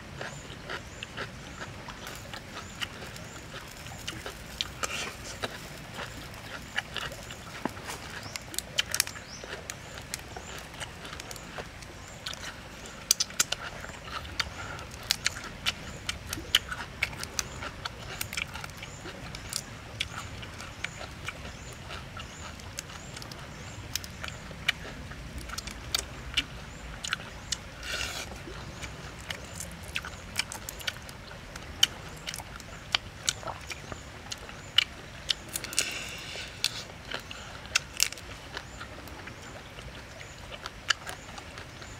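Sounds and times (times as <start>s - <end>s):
chewing and mouth noises: 0.0s - 41.9s.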